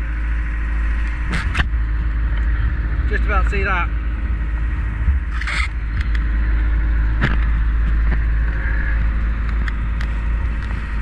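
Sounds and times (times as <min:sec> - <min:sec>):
boat engine rumble: 0:00.0 - 0:11.0
wind: 0:00.0 - 0:11.0.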